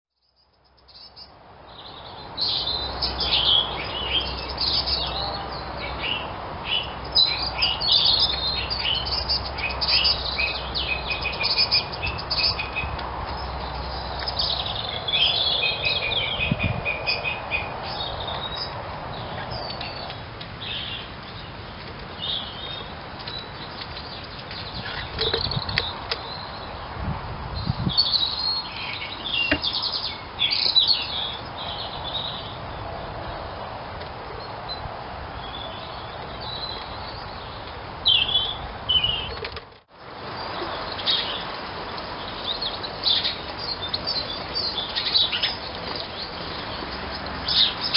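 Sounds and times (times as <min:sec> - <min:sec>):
songbirds chirping and trilling: 0:00.2 - 0:47.9.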